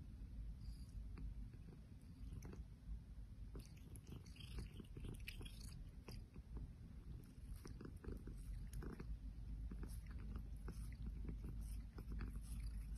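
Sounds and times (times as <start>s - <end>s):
cat purring: 0.6s - 2.8s, 3.5s - 12.9s.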